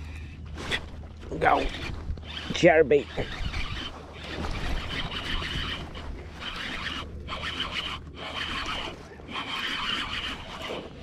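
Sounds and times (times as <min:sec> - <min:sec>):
fishing reel gears whirring: 0:00.0 - 0:11.0.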